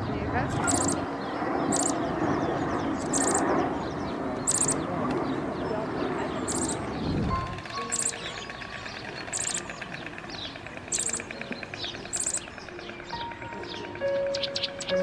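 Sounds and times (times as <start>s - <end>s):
dense low murmur: 0.0s - 14.3s
small birds chirping: 0.0s - 15.0s.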